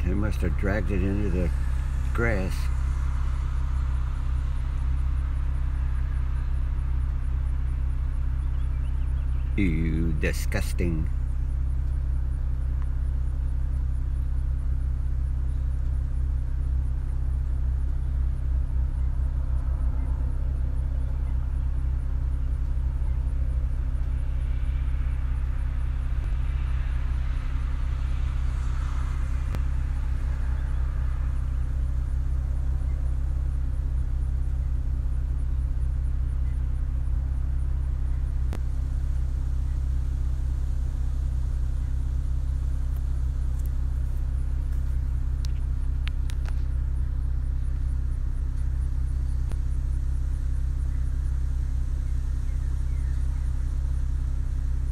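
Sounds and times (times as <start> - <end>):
vehicle engine idling: 0.0 - 54.9.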